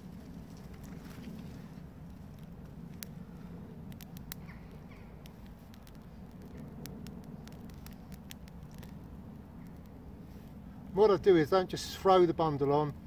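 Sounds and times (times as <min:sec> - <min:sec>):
fire crackling and popping: 0:00.0 - 0:11.0
low steady rumble: 0:00.0 - 0:13.0.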